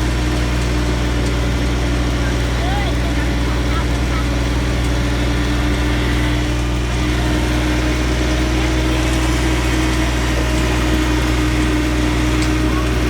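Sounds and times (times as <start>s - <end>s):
small tractor engine running: 0.0s - 13.0s.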